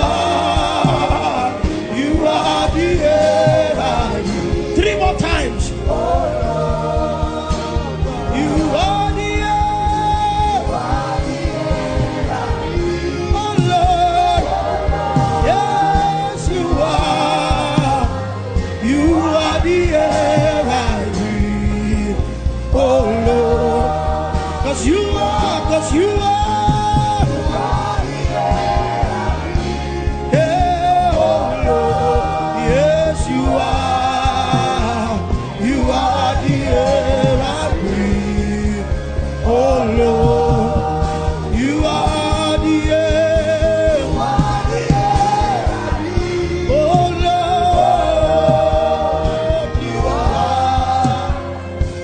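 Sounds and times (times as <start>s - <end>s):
gospel singing: 0.0s - 52.0s
instrumental accompaniment: 0.0s - 52.0s.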